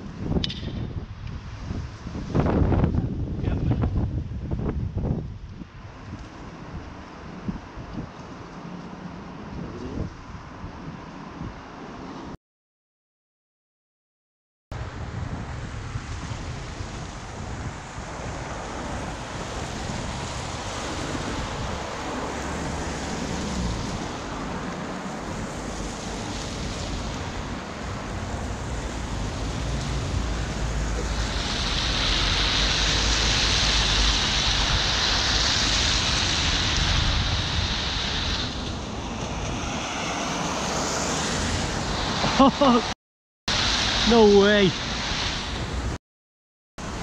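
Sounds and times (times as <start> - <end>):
wind on microphone: 0.0 - 8.3, 9.3 - 11.7, 14.8 - 42.9.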